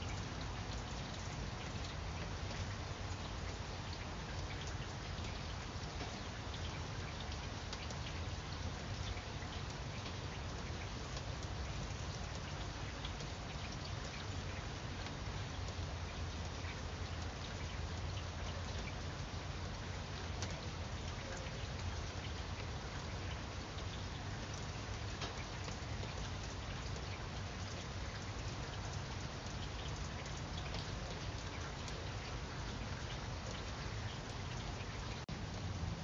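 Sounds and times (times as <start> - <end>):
raindrops ticking on leaves: 0.0 - 36.0.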